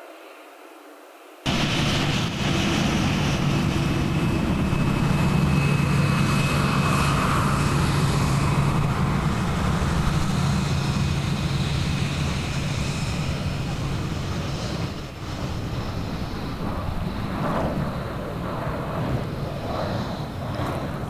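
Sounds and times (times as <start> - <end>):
jet engines rumbling and whining: 1.5 - 21.0.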